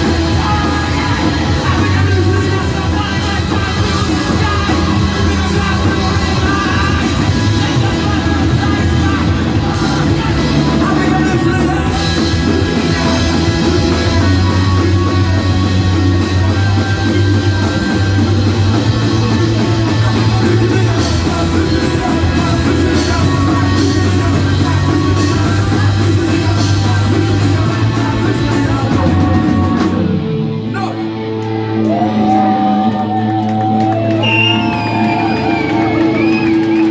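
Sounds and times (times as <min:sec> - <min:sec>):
rock band playing live: 0:00.0 - 0:36.9
yelled singing: 0:00.0 - 0:36.9.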